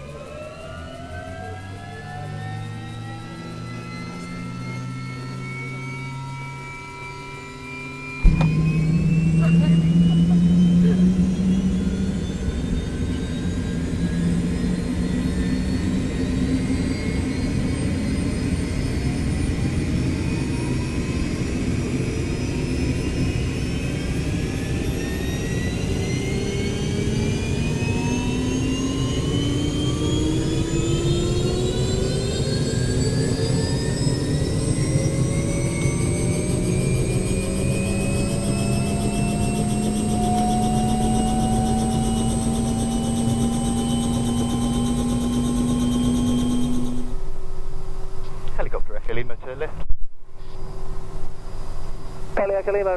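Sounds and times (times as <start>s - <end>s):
helicopter turbine whine: 0.0s - 52.9s
rotor hum: 0.0s - 52.9s.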